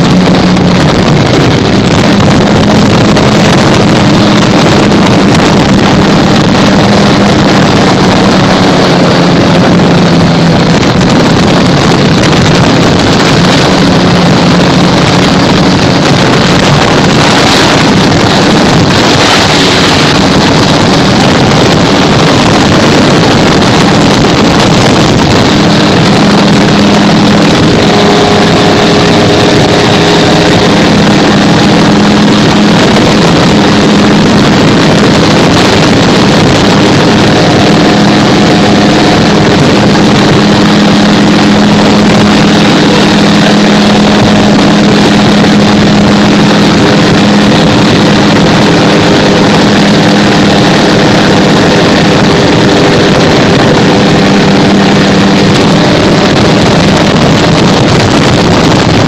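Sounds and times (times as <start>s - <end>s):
gyrocopter engine droning: 0.0s - 59.0s
rushing air noise: 0.0s - 59.0s.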